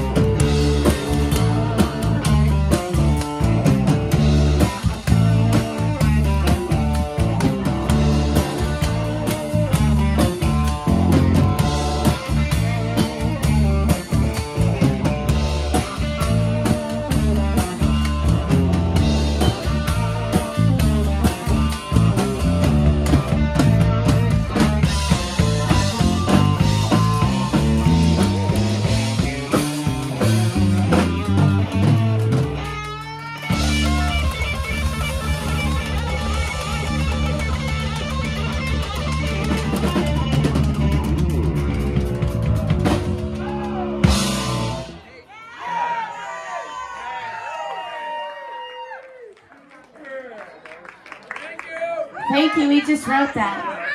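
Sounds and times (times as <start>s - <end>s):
live rock band playing: 0.0s - 45.1s, 52.3s - 53.9s.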